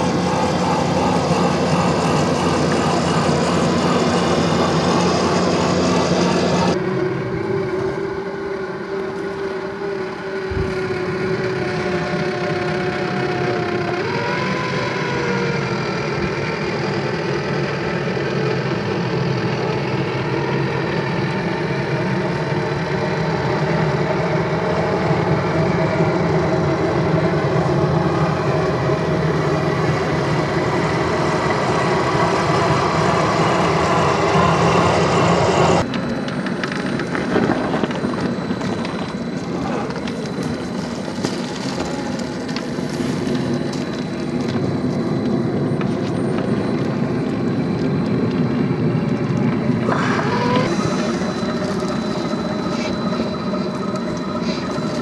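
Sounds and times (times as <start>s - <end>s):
toy truck electric motors whining: 0.0s - 55.0s.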